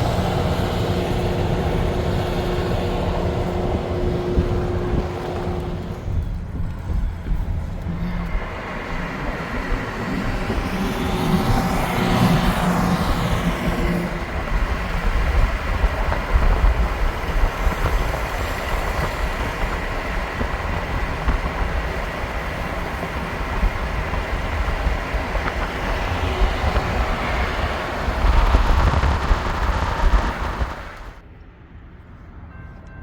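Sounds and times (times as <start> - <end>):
freight train rumbling on rails: 0.0 - 33.0.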